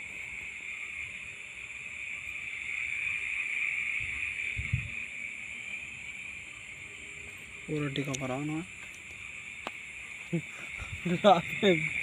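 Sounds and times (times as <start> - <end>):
crickets buzzing: 0.0 - 12.0.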